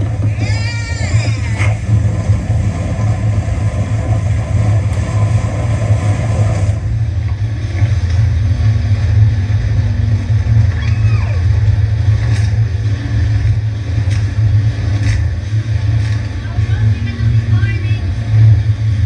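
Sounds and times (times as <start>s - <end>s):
jet ski engine: 0.0s - 19.0s.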